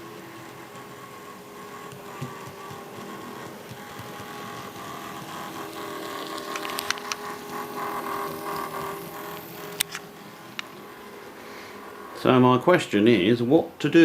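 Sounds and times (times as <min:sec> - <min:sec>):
model locomotive motor whining: 0:00.0 - 0:14.0.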